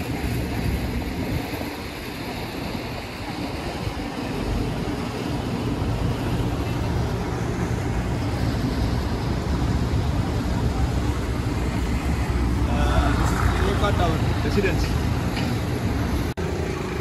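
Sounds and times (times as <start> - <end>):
traffic hum: 0.0 - 17.0
wind rumbling on microphone: 0.0 - 17.0.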